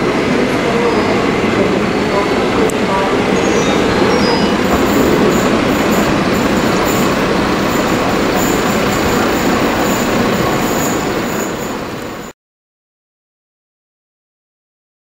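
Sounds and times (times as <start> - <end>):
train wheels rumbling on rails: 0.0 - 12.3.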